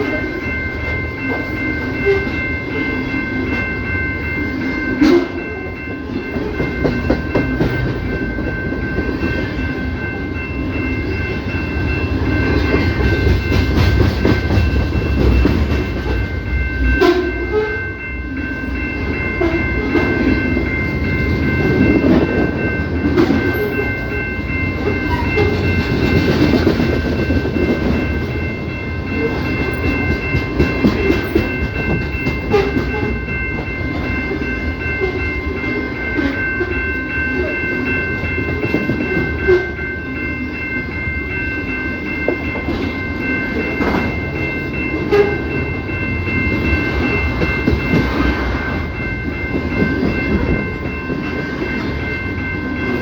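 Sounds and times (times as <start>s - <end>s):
freight train rumble: 0.0s - 53.0s.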